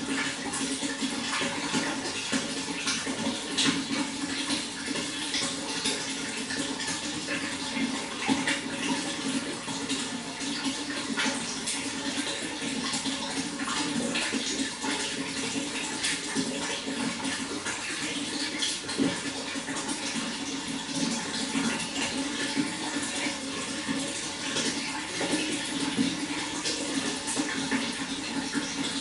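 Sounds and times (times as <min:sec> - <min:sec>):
running water splashing: 0:00.0 - 0:29.0.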